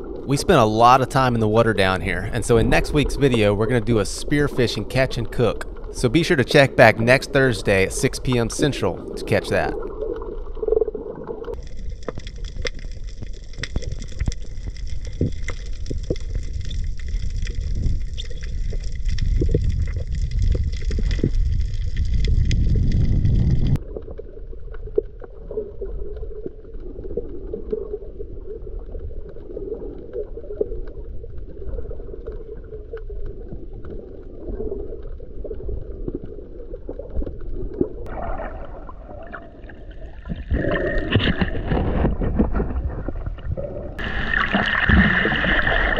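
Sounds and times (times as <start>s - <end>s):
underwater rumble of moving water: 0.0s - 45.9s
faint underwater clicks: 2.2s - 44.0s.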